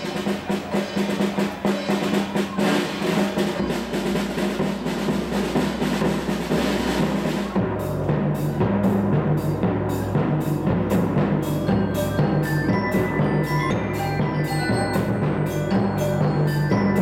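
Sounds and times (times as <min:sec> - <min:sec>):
drums struck quickly: 0:00.0 - 0:17.0
mallet instruments sustained notes: 0:00.0 - 0:17.0.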